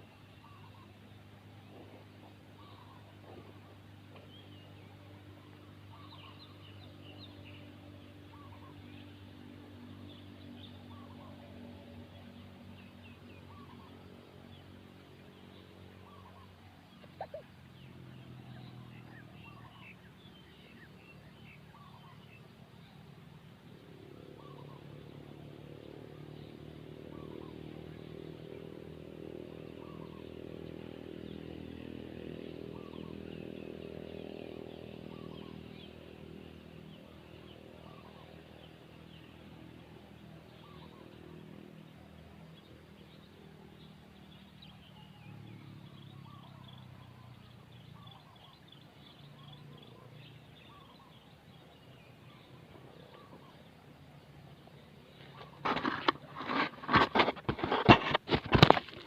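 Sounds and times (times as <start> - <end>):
engine drone: 0.0 - 59.0
small birds chirping: 0.0 - 59.0.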